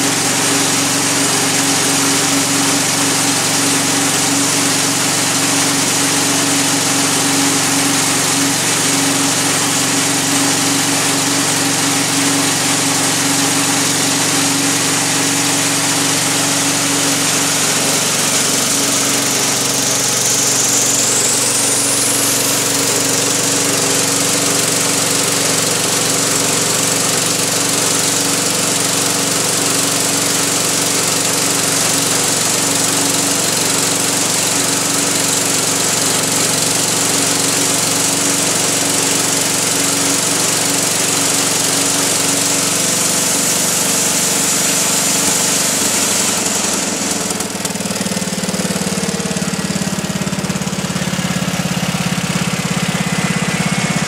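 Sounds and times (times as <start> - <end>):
high saw blade whine: 0.0 - 54.0
sawmill engine drone: 0.0 - 54.0.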